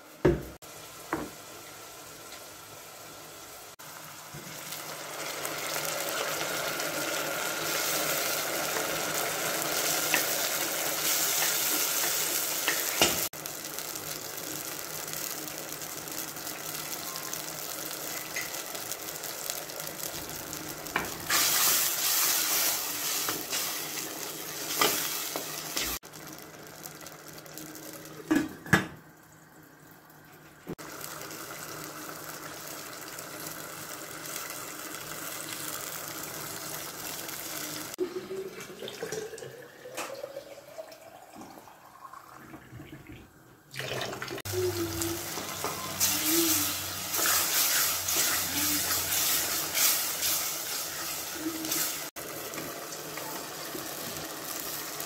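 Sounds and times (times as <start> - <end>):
tomatoes sizzling in hot oil: 0.1 - 38.5, 44.3 - 55.0.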